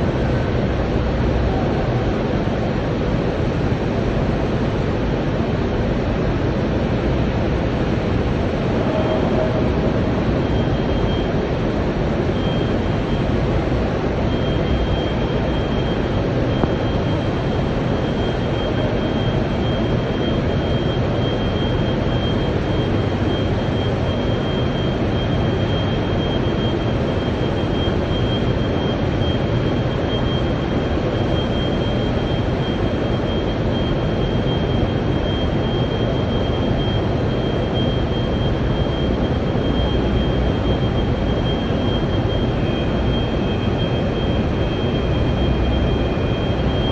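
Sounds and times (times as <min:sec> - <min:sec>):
industrial furnace roar: 0:00.0 - 0:46.9
thin high whine: 0:05.8 - 0:46.9.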